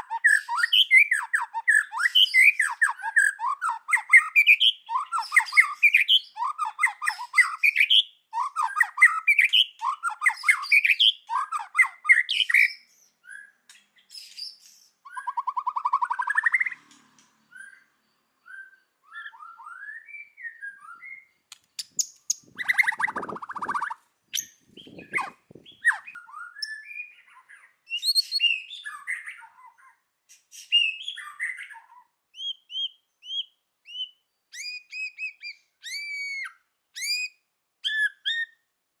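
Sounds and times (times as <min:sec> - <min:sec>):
songbird singing: 0:00.0 - 0:38.7.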